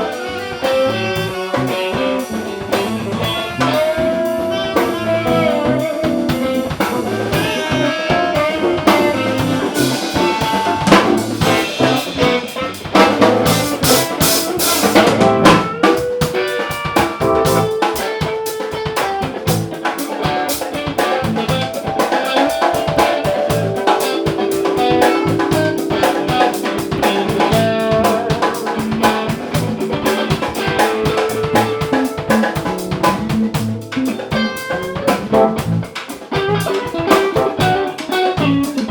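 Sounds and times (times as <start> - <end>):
drum kit beat: 0.0 - 38.9
guitar playing: 0.0 - 38.9.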